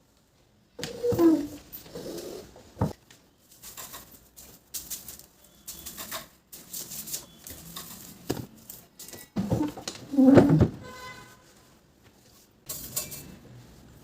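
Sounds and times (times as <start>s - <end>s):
rustling and clatter of household items: 0.2s - 14.0s.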